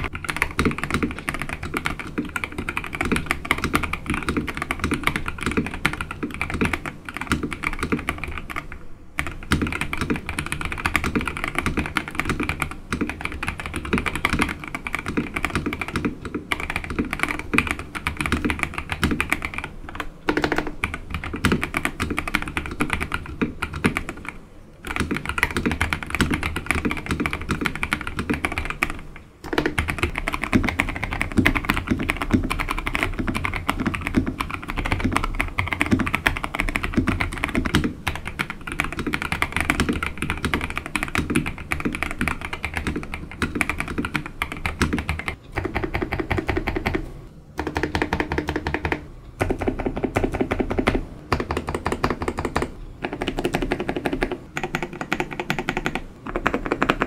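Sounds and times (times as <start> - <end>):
fast keyboard typing: 0.0 - 57.0.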